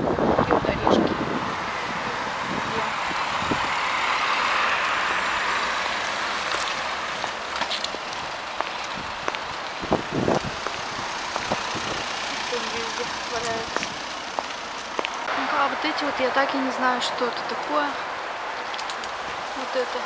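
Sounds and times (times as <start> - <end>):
motor vehicle passing: 0.0 - 20.0.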